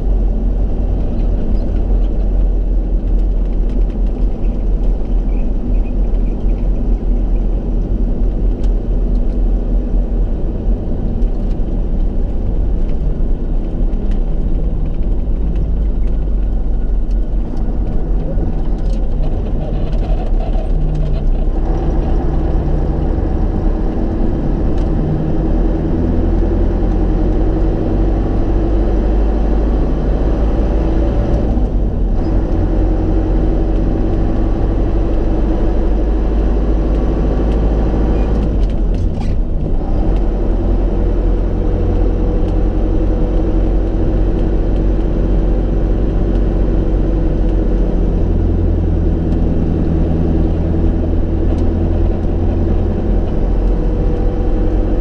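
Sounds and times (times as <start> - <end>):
truck engine rumble inside cab: 0.0 - 55.0.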